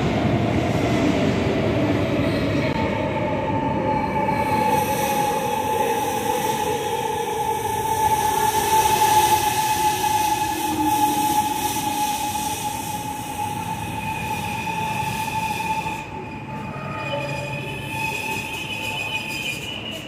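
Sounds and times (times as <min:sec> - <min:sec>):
electric train slowing to a stop: 0:00.0 - 0:20.0.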